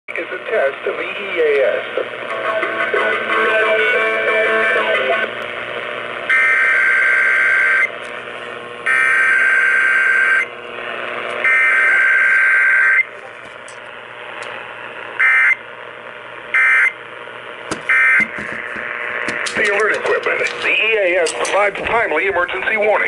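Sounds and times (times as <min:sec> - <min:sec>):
radio hiss: 0:00.1 - 0:06.3, 0:10.0 - 0:23.0.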